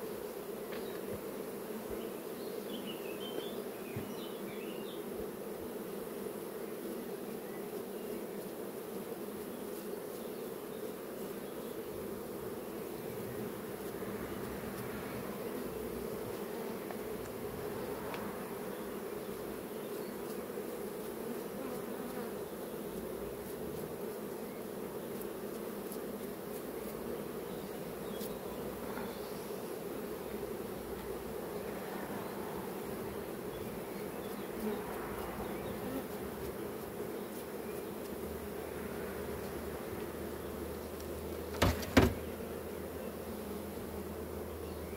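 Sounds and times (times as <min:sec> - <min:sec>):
honeybees buzzing: 0:00.0 - 0:44.9.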